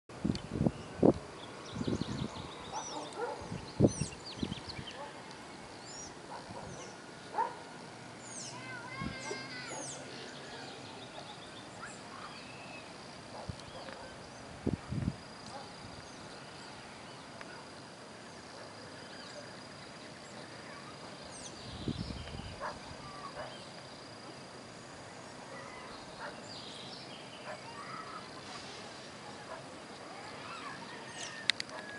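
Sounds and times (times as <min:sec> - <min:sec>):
steady hiss: 0:00.1 - 0:31.9.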